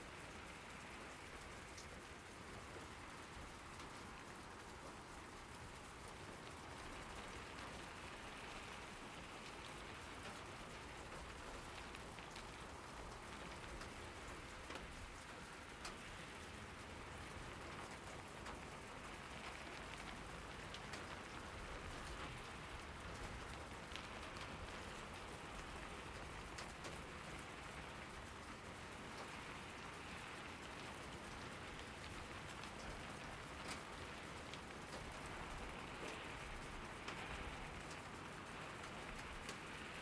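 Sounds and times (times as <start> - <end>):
raindrops ticking on a surface: 0.0 - 40.0
steady rain hiss: 0.0 - 40.0.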